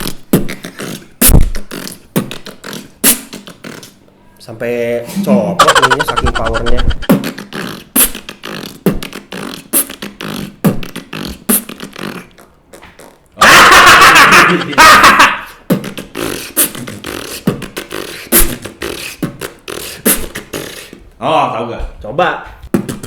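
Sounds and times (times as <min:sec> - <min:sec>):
person beatboxing: 0:00.0 - 0:04.0, 0:05.6 - 0:13.2, 0:14.4 - 0:21.0, 0:22.7 - 0:23.0.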